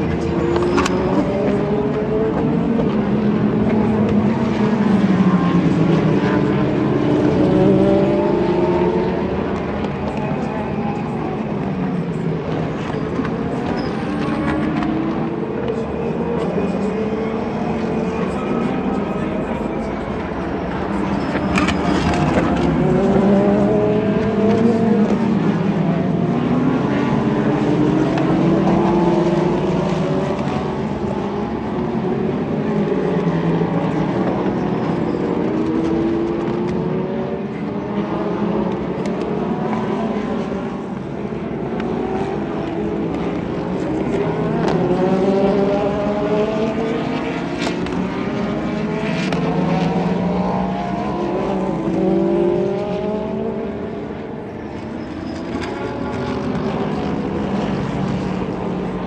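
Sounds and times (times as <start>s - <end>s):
racing cars passing: 0.0s - 59.0s.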